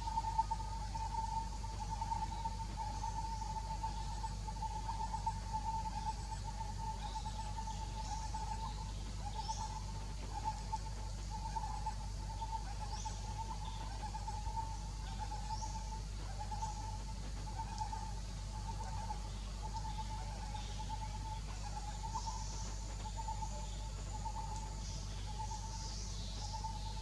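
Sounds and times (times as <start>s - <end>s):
high wildlife hum: 0.0s - 27.0s.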